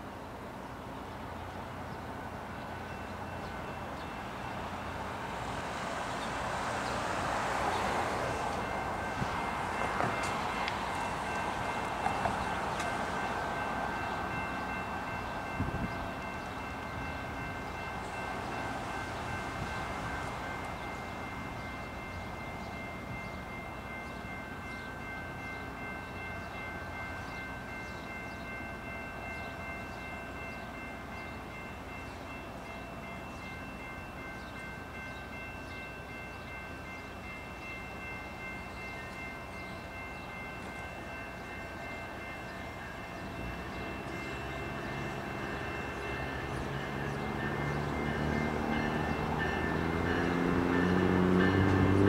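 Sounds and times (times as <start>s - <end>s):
high multi-tone train whine: 0.0s - 52.0s
low train engine rumble: 0.0s - 52.0s.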